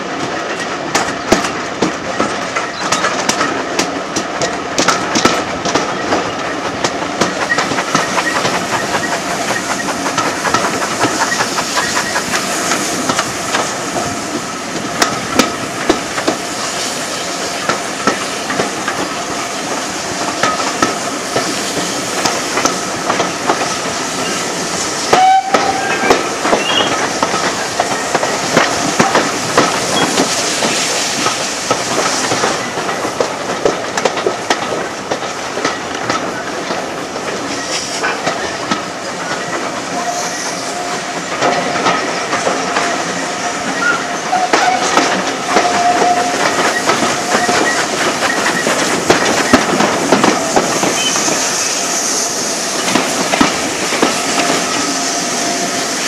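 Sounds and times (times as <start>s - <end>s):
train wheels clicking on rails: 0.0s - 56.0s.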